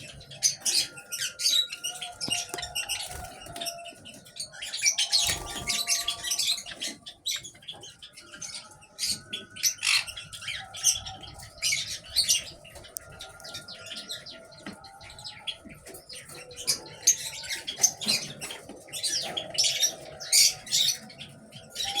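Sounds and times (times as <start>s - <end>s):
sparrows chirping: 0.0s - 22.0s.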